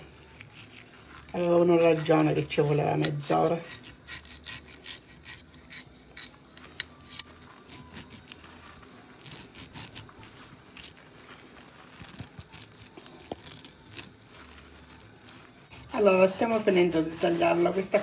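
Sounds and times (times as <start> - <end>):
knife scraping through meat: 0.0 - 18.0.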